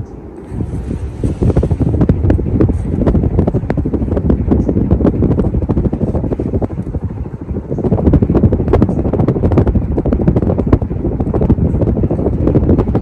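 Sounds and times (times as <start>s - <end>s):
ceiling fan wind buffeting microphone: 0.0s - 13.0s.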